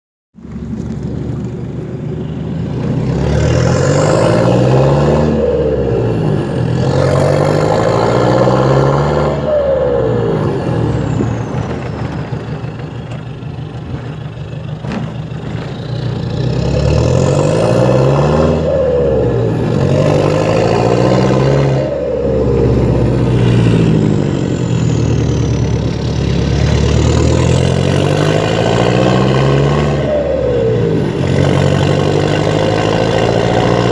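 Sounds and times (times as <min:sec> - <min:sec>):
diesel engine accelerating: 0:00.4 - 0:33.9.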